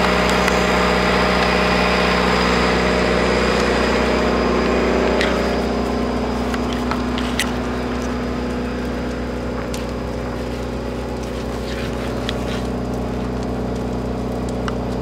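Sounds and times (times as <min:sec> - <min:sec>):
grass fire crackling: 0:00.0 - 0:15.0
machine engine hum: 0:00.0 - 0:15.0.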